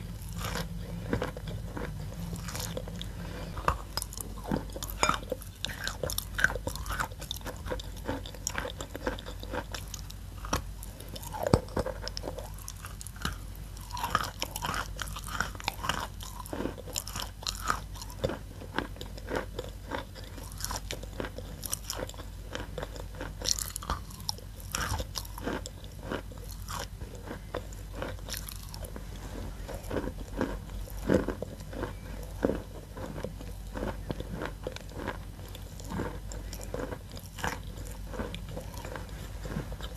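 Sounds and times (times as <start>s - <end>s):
chalk being chewed with crunches: 0.0s - 39.9s.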